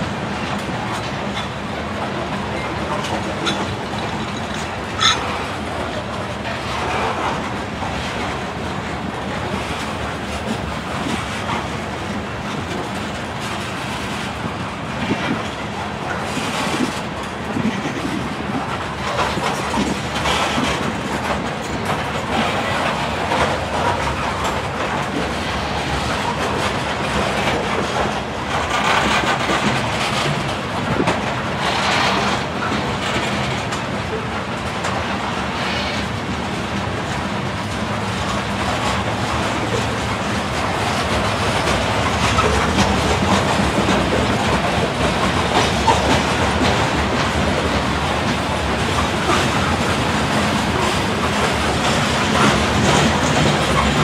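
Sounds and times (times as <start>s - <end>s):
clickety-clack over rail joints: 0.0s - 54.0s
freight train wheels on rails: 0.0s - 54.0s.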